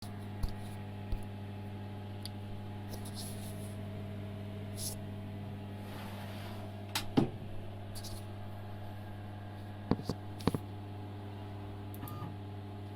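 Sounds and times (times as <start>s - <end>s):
milling machine electrical hum: 0.0s - 12.9s.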